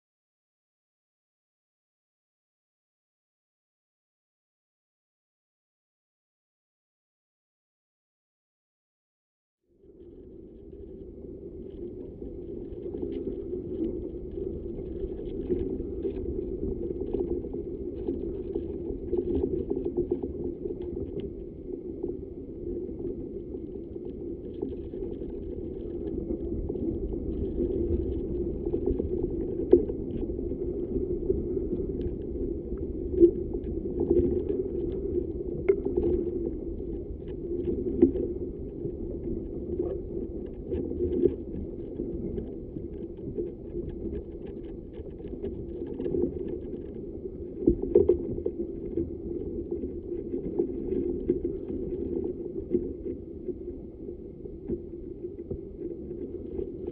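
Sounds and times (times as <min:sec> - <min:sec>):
low rumble inside tree trunk: 0:09.7 - 0:56.9.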